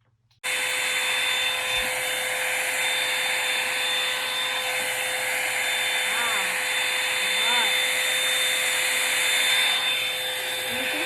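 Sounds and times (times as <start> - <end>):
hair dryer rushing air: 0.4 - 11.0
high motor whine: 0.4 - 11.0.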